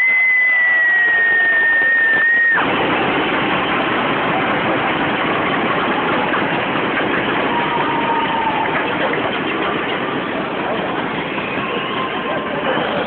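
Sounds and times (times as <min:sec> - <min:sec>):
crowd roar: 0:00.0 - 0:13.0.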